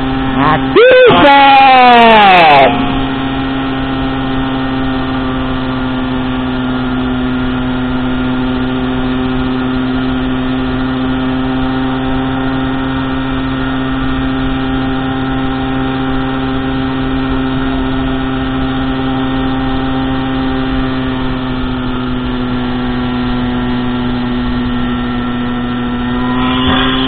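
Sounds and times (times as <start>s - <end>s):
road noise: 0.0s - 27.0s
small motorbike engine droning: 0.0s - 27.0s.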